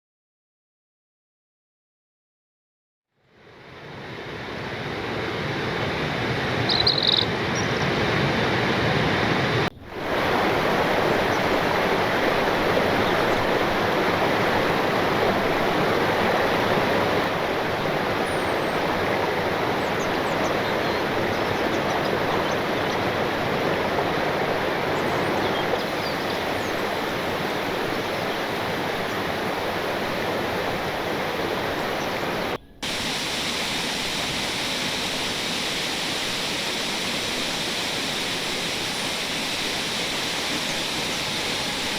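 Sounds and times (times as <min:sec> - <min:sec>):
waterfall rushing: 0:07.9 - 0:41.9.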